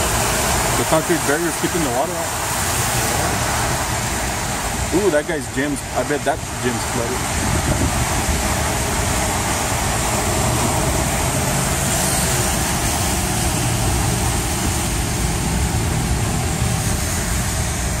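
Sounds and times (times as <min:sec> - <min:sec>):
car engine and road rumble: 0:00.0 - 0:18.0
tyres hissing on wet road: 0:00.0 - 0:18.0.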